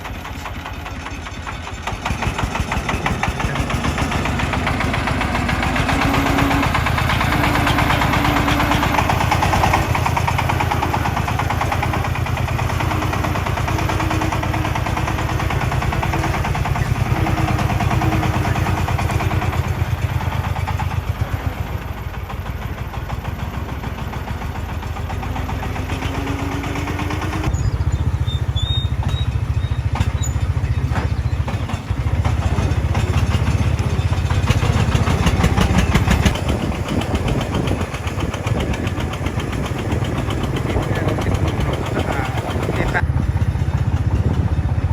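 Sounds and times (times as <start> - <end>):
heavy machinery diesel engines rumbling: 0.0 - 44.9.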